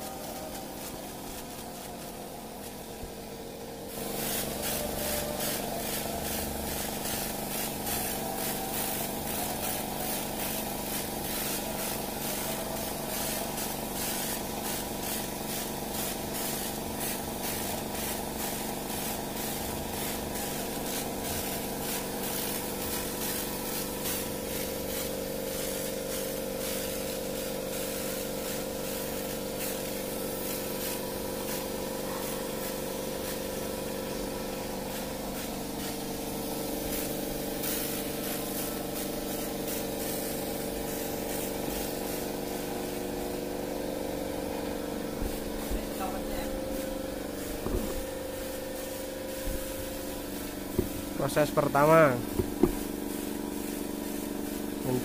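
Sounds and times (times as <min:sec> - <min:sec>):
air compressor running: 0:00.0 - 0:55.0
spray gun hissing: 0:00.0 - 0:55.0.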